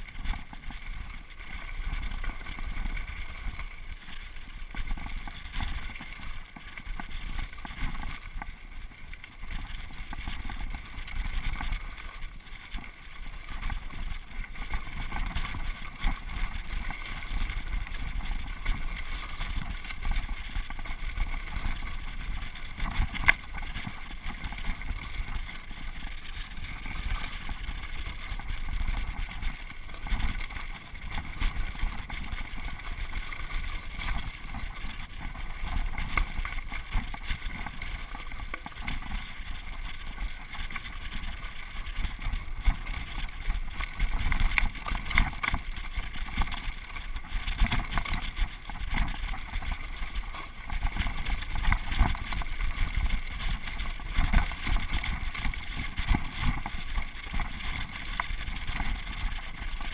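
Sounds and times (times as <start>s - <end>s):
bike clicks and rattles: 0.0s - 59.9s.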